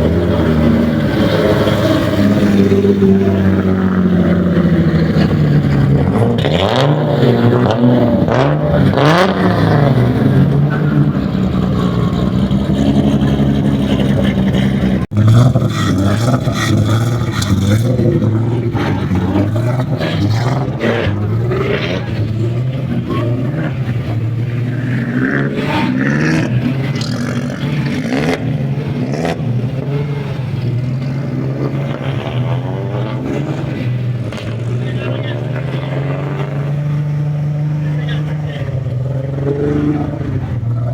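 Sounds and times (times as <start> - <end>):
car engines revving past: 0.0 - 40.9.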